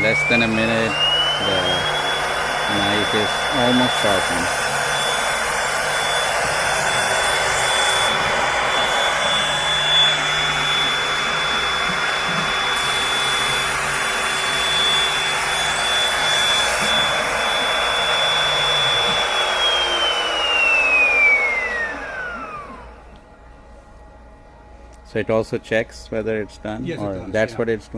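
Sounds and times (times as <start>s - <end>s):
sharpening machine motor whining: 0.0s - 23.2s.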